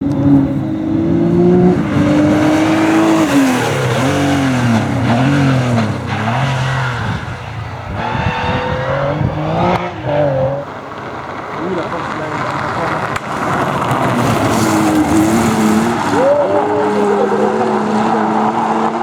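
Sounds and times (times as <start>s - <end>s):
racing car engine revving: 0.0s - 19.0s.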